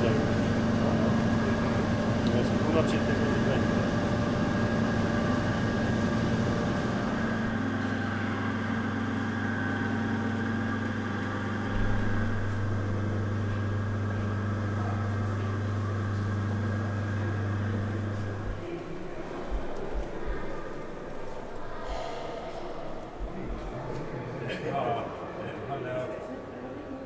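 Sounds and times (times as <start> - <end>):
low machinery drone: 0.0 - 26.8.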